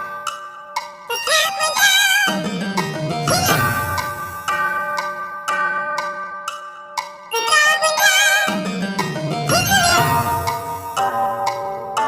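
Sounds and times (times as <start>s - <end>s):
nursery rhyme music: 0.0s - 12.0s.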